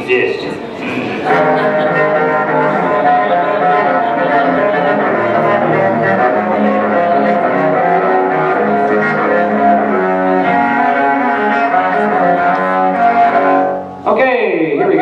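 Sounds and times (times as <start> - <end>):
bowed cello: 0.4 - 14.0.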